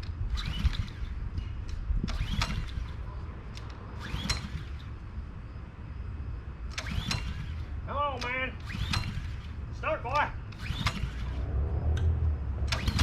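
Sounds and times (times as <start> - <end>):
recoil starter pulls whirring: 0.0 - 5.2, 6.6 - 13.0.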